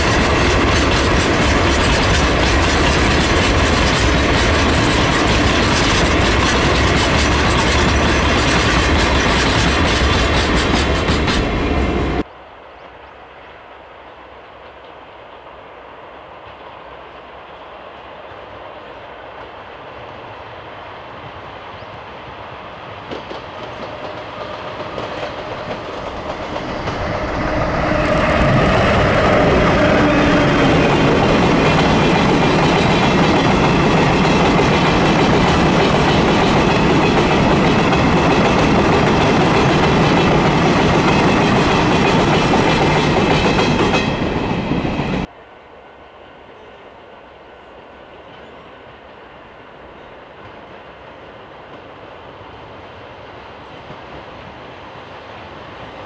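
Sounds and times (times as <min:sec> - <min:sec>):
electric train passing: 0:00.0 - 0:56.0.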